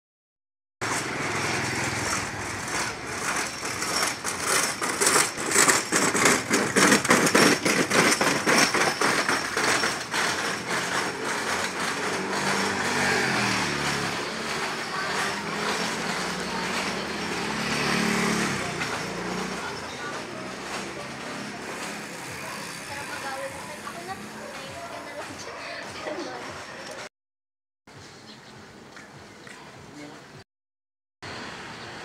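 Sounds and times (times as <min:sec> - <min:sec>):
vehicle engines passing: 0:00.8 - 0:27.1, 0:31.2 - 0:32.0.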